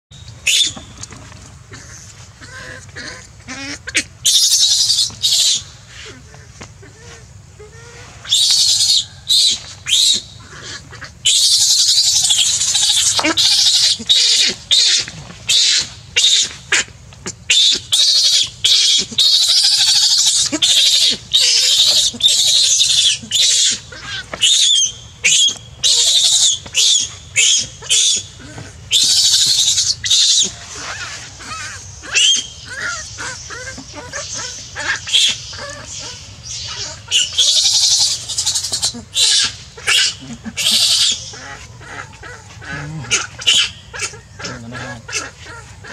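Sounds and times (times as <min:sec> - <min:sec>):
baby monkey screaming: 0:00.4 - 0:00.8, 0:01.7 - 0:45.9.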